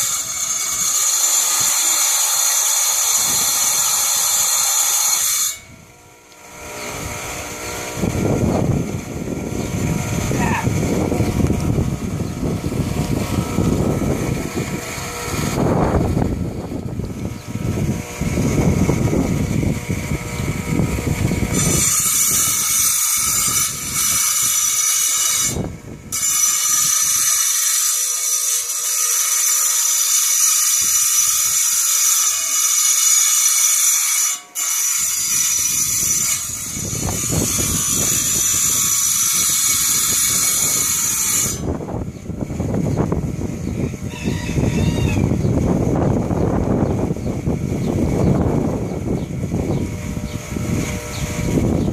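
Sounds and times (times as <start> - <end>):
tile saw cutting rock: 0.0 - 42.0.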